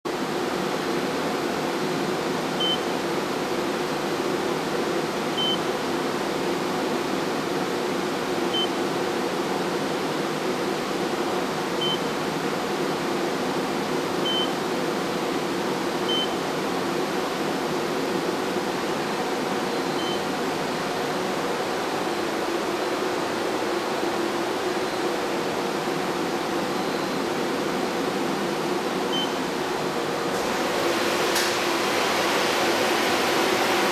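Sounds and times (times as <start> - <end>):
cooling fans whirring: 0.1 - 33.9.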